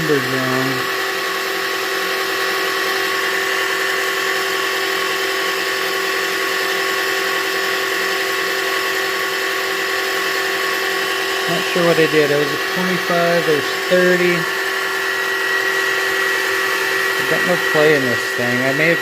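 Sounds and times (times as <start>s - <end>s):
metal lathe motor whine: 0.0s - 19.0s.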